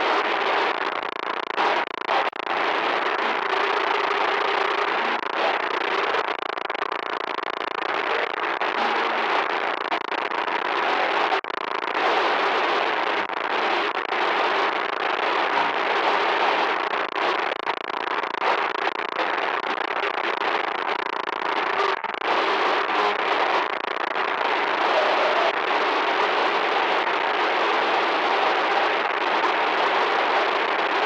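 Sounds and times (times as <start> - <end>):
loud crackling static: 0.0 - 31.0.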